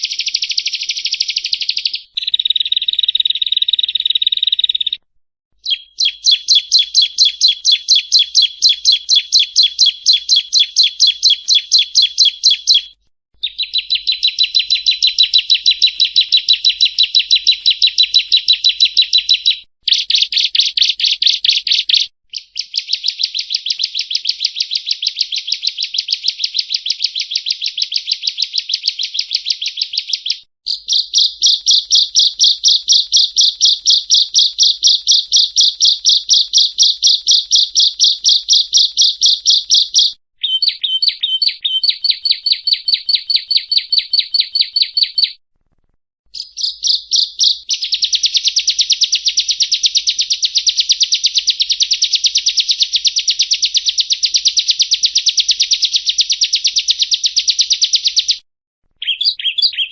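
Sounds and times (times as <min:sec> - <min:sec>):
bird singing high rapid notes: 0:00.0 - 0:05.0, 0:05.6 - 0:45.4, 0:46.4 - 0:58.4, 0:59.0 - 0:59.9.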